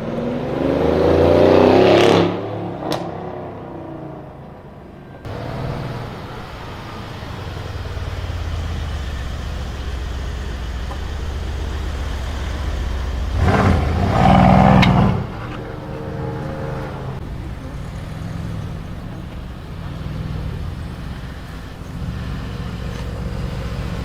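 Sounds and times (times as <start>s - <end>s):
car exhaust rumbling: 0.0s - 24.0s.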